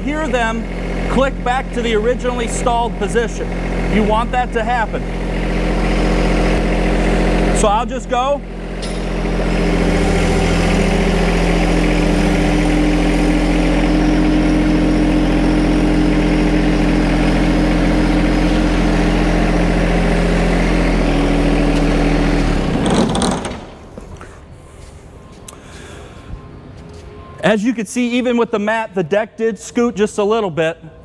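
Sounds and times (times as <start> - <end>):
tractor diesel engine running: 0.0 - 27.4.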